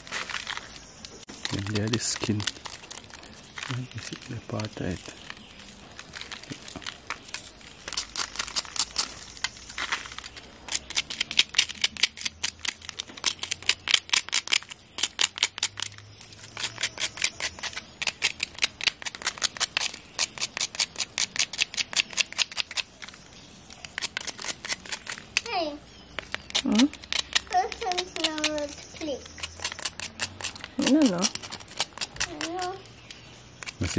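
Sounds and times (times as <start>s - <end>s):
knife scraping charred skin: 0.0s - 25.5s, 26.1s - 33.9s.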